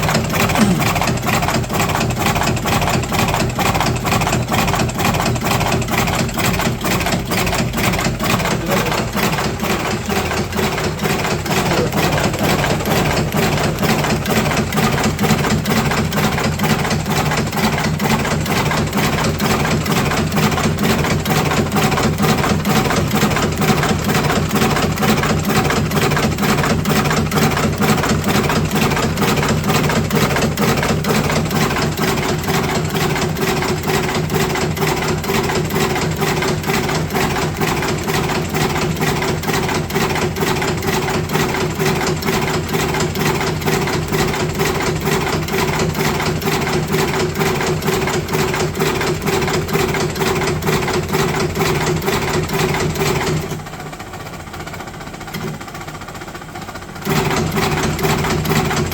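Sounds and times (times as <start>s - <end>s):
motor hum: 0.0s - 51.4s
fast mechanical clicking: 0.0s - 58.9s.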